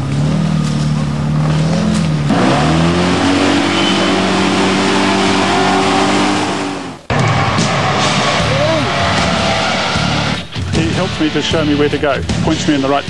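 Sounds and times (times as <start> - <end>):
engine revving hard: 0.0 - 11.2.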